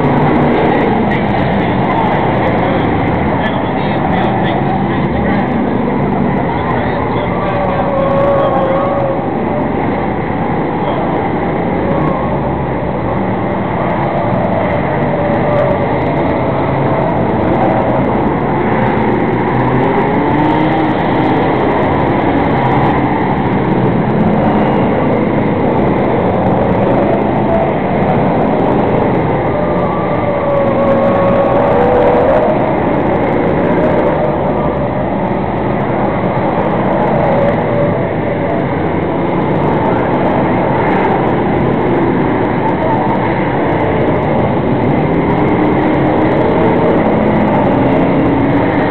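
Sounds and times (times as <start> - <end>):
race car engines passing: 0.0 - 48.9.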